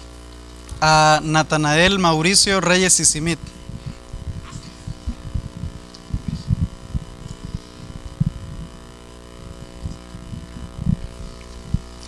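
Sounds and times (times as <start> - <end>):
electrical hum: 0.0 - 12.0
microphone handling thumps: 1.8 - 12.0.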